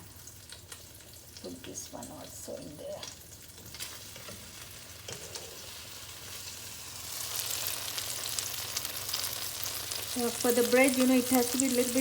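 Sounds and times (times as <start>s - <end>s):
bread frying in butter sizzling: 0.0s - 12.0s.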